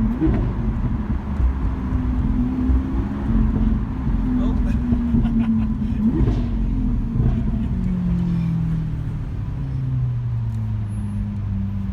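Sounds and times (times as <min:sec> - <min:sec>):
sports car engine revving: 0:00.0 - 0:11.9.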